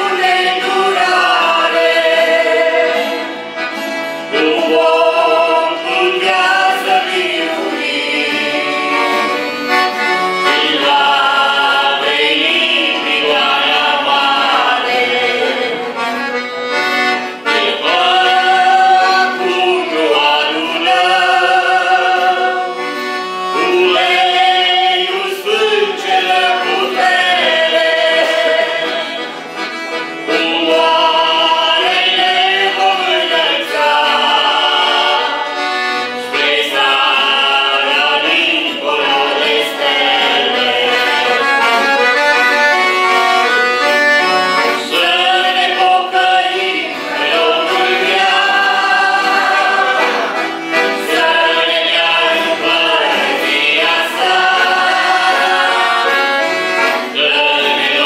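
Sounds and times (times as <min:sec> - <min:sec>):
people singing a religious song: 0:00.0 - 0:03.6, 0:04.2 - 0:16.8, 0:17.4 - 0:42.2, 0:43.0 - 0:58.0
accordion playing: 0:00.0 - 0:58.0.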